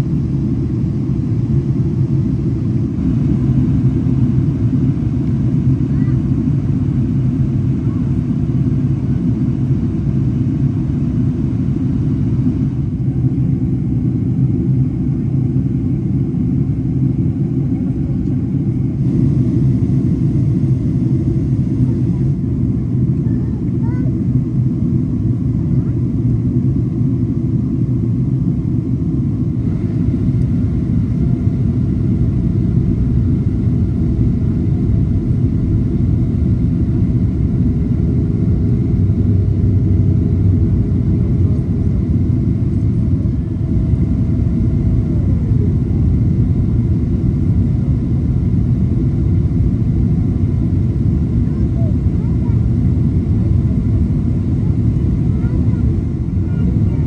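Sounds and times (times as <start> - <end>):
airliner cabin engine roar: 0.0 - 57.0.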